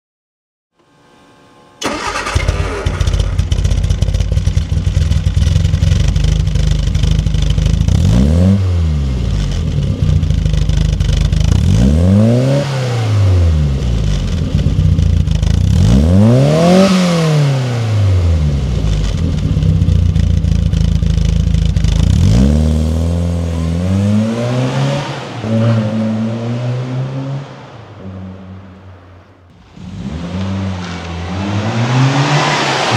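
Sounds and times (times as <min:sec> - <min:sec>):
car engine idling and revving: 0:01.8 - 0:32.9.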